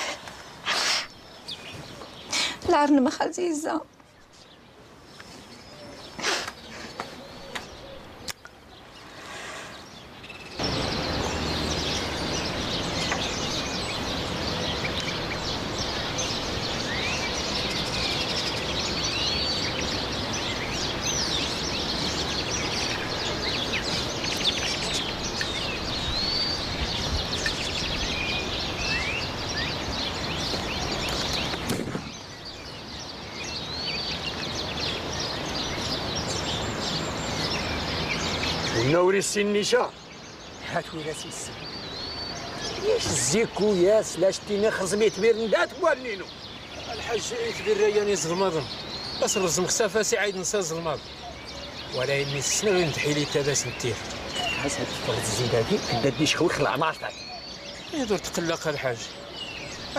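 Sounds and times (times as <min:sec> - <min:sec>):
birds chirping: 0:00.0 - 0:59.9
steady background hiss: 0:00.0 - 0:59.9.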